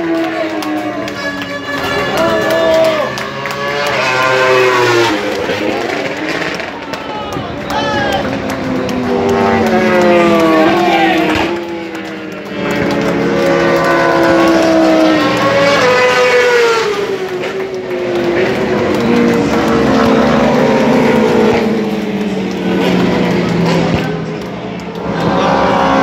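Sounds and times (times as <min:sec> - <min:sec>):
racing motorcycles passing by: 0:00.0 - 0:26.0.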